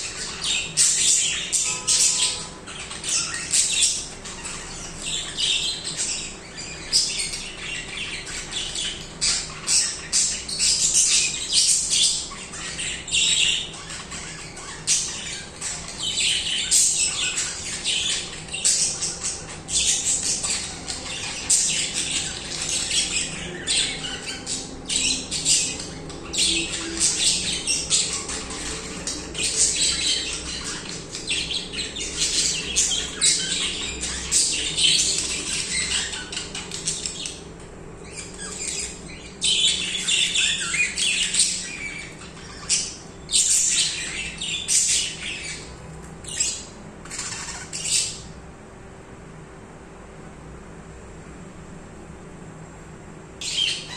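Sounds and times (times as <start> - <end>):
budgerigars chattering and chirping: 0.0 - 48.4, 53.4 - 53.9.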